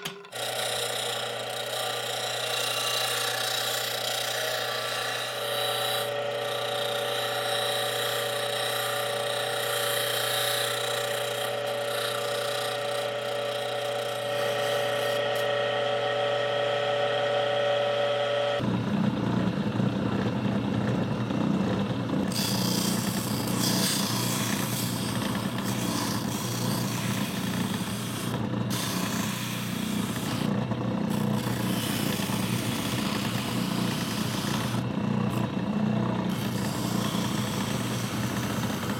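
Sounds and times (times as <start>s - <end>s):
coarse low machine sound: 0.0s - 38.9s
power tool motor whine: 0.0s - 38.9s.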